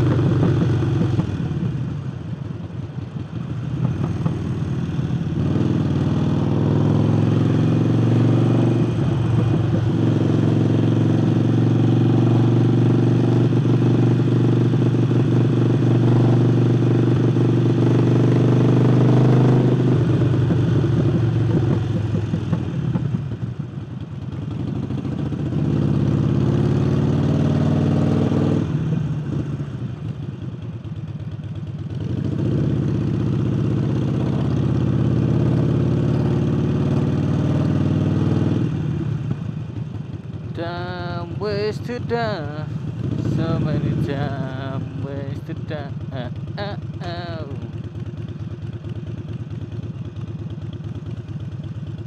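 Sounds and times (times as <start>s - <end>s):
motorcycle engine revving: 0.0s - 1.8s, 3.6s - 23.5s, 24.3s - 29.8s, 31.8s - 52.0s.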